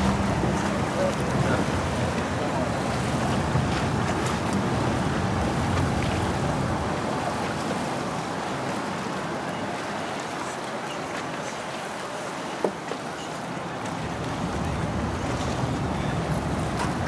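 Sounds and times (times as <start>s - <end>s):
water rushing around boat: 0.0s - 17.0s.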